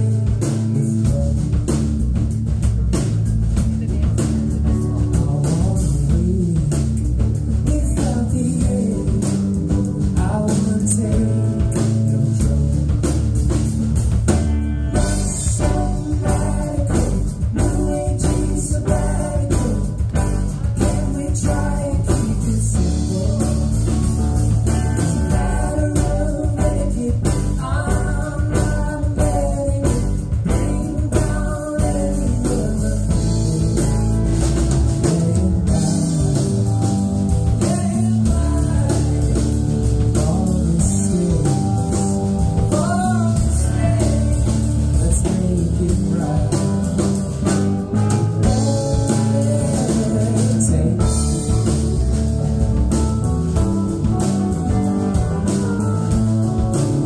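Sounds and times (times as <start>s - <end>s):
drum kit: 0.0s - 57.0s
electric guitar: 0.0s - 57.0s
keyboards: 0.0s - 57.0s
lead singer singing: 3.8s - 13.5s, 14.9s - 52.3s.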